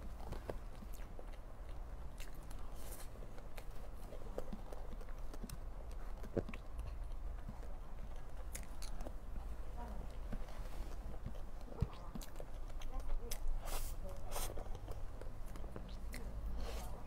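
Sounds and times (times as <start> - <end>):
low steady hum: 0.0 - 17.0
chewing and wet mouth smacks: 0.1 - 17.0.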